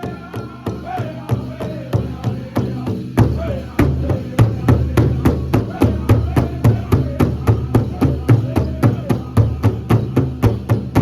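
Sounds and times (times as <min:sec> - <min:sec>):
big drum fast beat: 0:00.0 - 0:11.0
group of men singing: 0:00.0 - 0:11.0.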